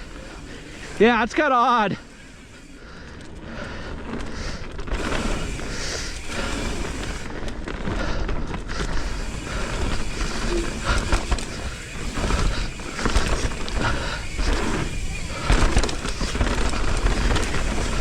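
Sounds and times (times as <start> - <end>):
bike tyres rolling over dirt and rocks: 0.0 - 18.0.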